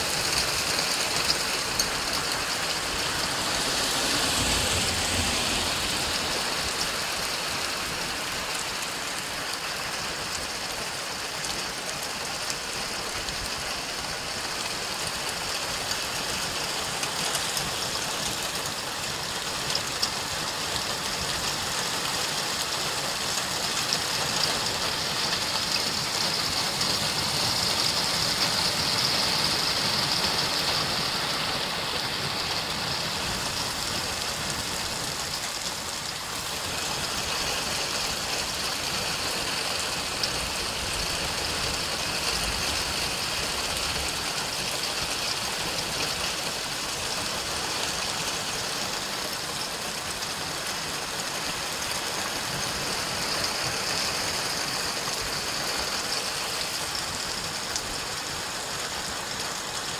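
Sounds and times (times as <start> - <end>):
heavy rain pouring on road: 0.0 - 59.9.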